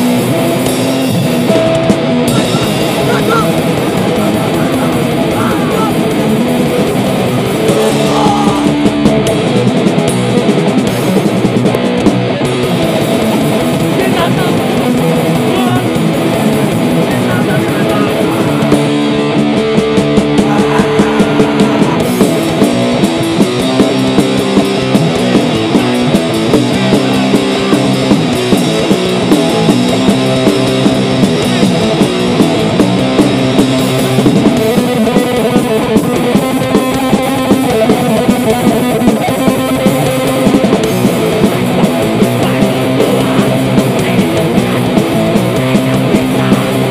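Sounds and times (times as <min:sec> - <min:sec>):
bass guitar: 0:00.0 - 0:46.9
distorted electric guitars: 0:00.0 - 0:46.9
drum kit: 0:00.0 - 0:46.9.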